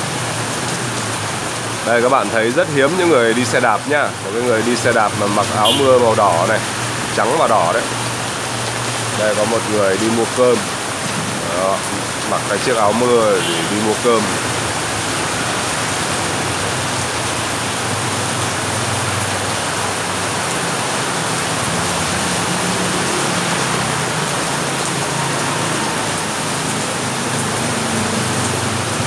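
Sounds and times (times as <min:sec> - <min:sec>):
heavy rain pouring: 0:00.0 - 0:29.0
motorbikes passing on wet road: 0:00.0 - 0:29.0.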